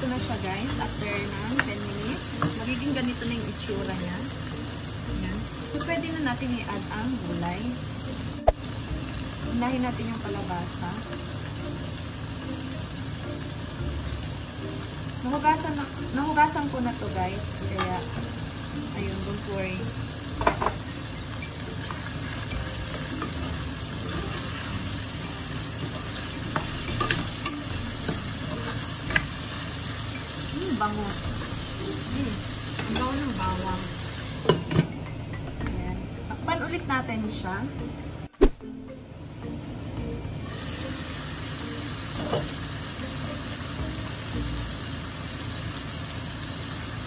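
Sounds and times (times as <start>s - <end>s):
food sizzling in pot: 0.0s - 47.0s.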